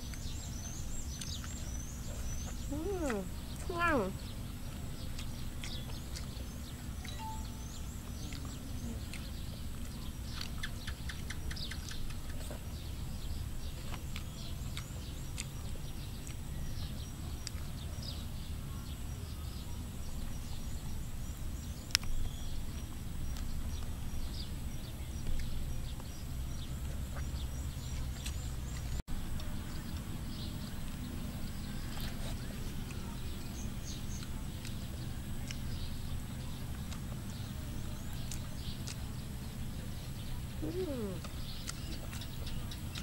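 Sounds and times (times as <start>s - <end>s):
birds chirping faintly: 0.0s - 43.0s
steady low rumble: 0.0s - 43.0s.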